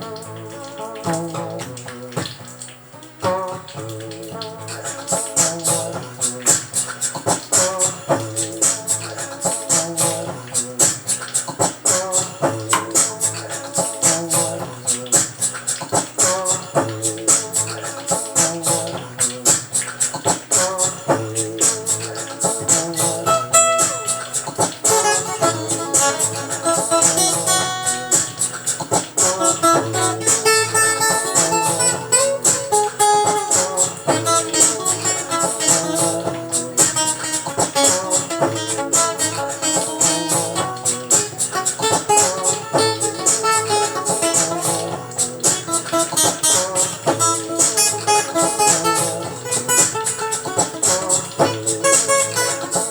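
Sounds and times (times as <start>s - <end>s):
plucked guitar over fast beat: 0.0s - 52.9s.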